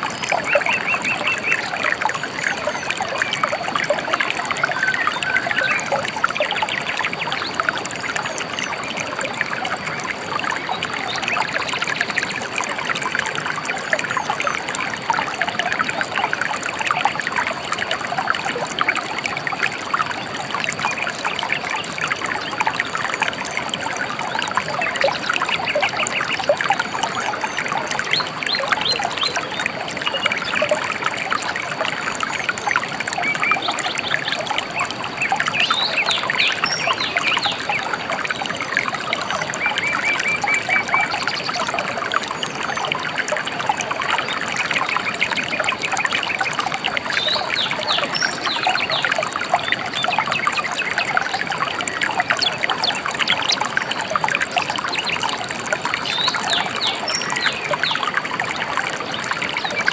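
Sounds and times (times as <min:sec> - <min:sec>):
stream trickling and babbling: 0:00.0 - 0:59.9.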